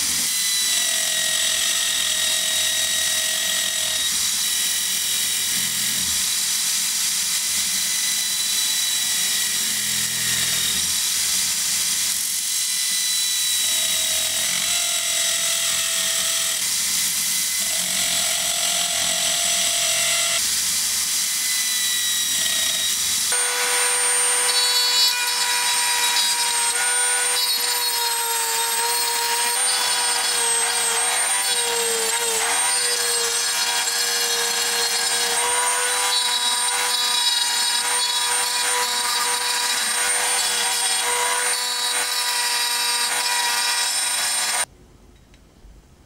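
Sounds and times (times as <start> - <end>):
electric drill whining: 7.2 - 44.7.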